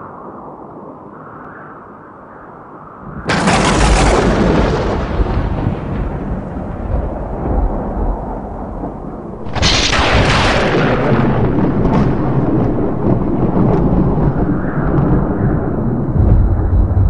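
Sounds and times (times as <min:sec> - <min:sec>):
wind: 0:00.0 - 0:17.0
thunder rumble: 0:03.0 - 0:17.0
sharp thunderclap: 0:03.1 - 0:17.0.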